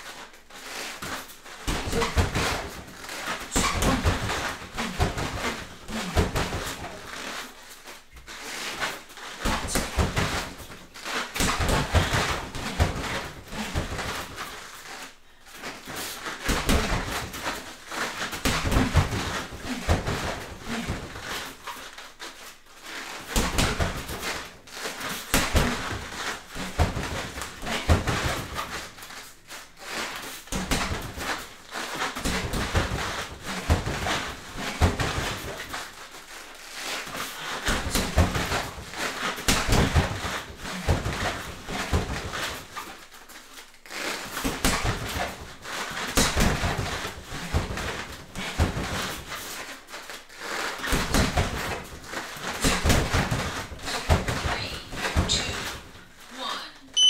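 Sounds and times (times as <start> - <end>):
bare feet shuffling on mats: 0.0 - 56.8.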